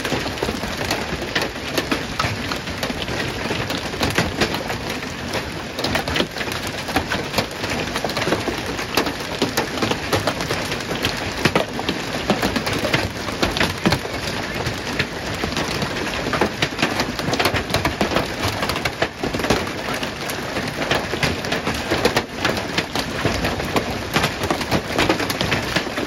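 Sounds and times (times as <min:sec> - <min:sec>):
hailstones pelting cars and gravel: 0:00.0 - 0:26.0.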